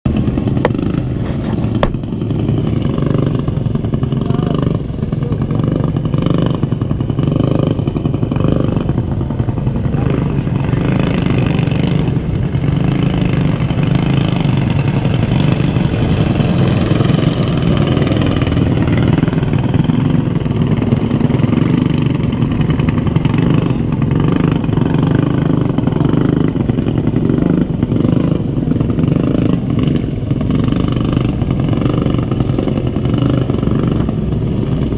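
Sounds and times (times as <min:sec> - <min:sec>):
lawnmower engines revving: 0:00.1 - 0:34.9.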